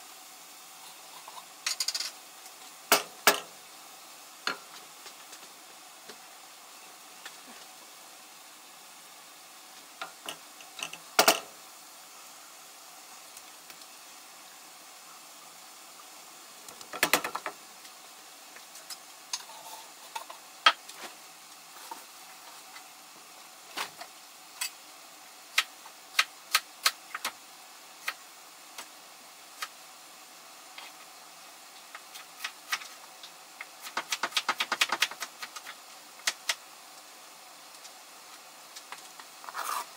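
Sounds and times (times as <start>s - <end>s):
food sizzling in pans: 0.0s - 39.9s.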